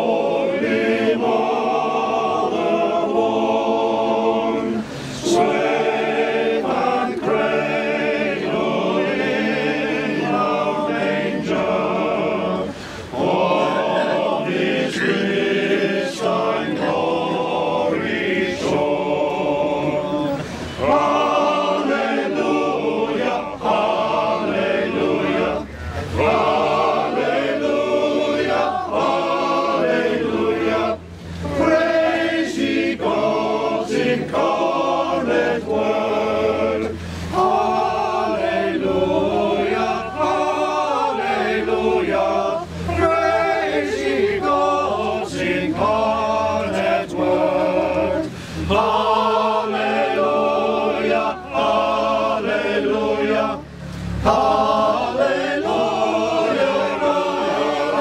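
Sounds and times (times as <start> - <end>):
group singing a carol: 0.0 - 58.0.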